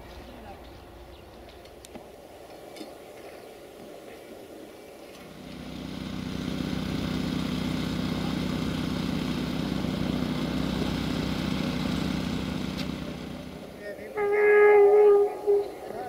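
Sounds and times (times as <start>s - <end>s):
locomotive engine drone: 0.0s - 14.5s.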